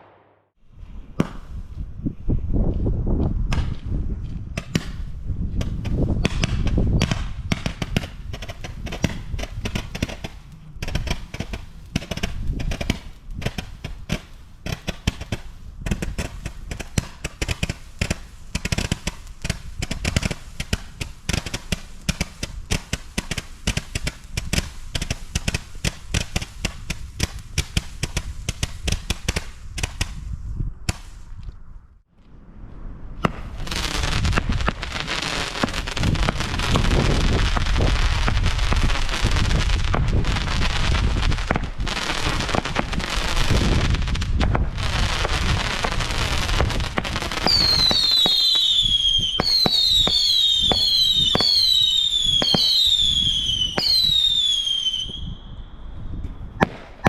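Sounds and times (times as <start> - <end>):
firework battery bangs and cracks: 4.6 - 30.2, 33.2 - 54.7, 56.6 - 57.0.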